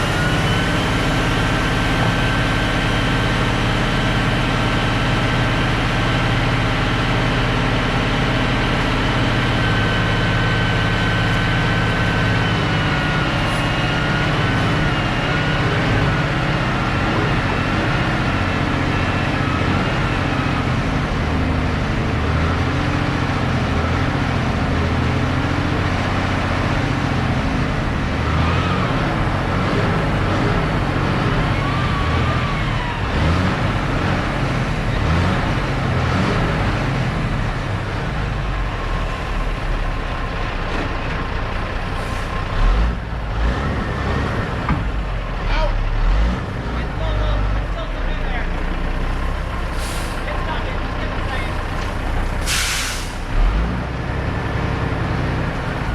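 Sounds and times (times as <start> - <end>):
tracked loader engine running: 0.0 - 55.9.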